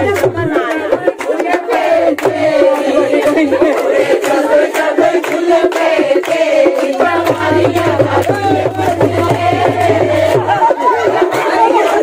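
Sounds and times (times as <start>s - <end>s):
sharp drum strikes: 0.0s - 3.4s, 4.9s - 11.2s
group singing folk song: 0.0s - 12.0s.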